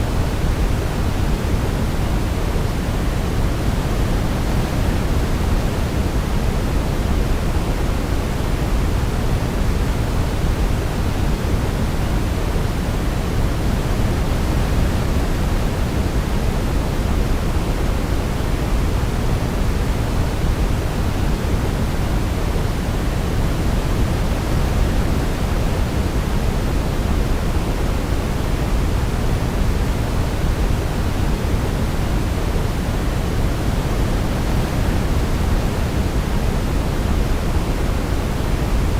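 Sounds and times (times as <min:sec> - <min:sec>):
deep even pink noise hiss: 0:00.0 - 0:38.9.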